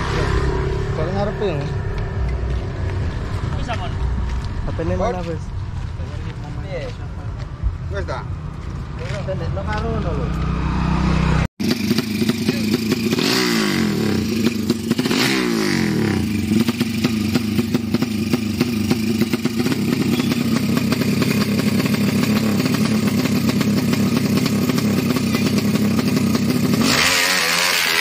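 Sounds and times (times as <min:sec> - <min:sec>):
motorcycle engine revving and idling: 0:00.0 - 0:28.0.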